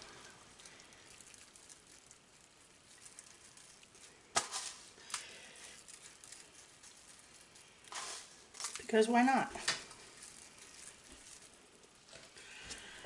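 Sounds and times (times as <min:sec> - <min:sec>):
sugar sprinkles ticking and rustling: 0:00.0 - 0:13.0.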